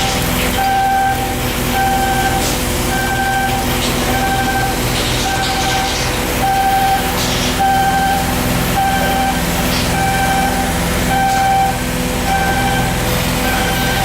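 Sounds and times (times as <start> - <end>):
electronic warning beeper: 0.0 - 14.0
low machinery rumble: 0.0 - 14.0.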